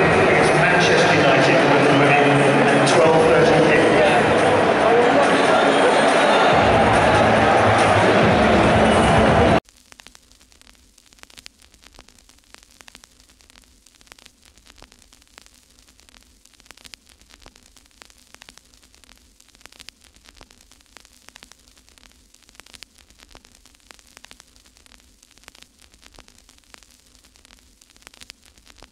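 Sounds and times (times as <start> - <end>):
crackling static: 0.0 - 28.9.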